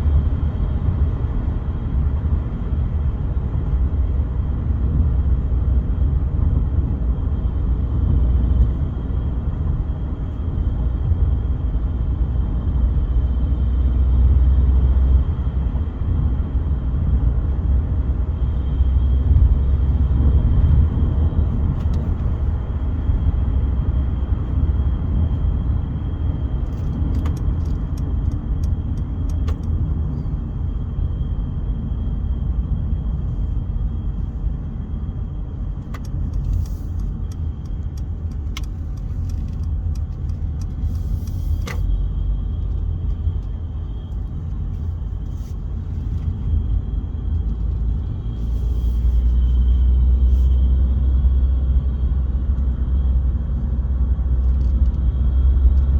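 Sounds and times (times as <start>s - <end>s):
engine and road rumble: 0.0s - 55.9s.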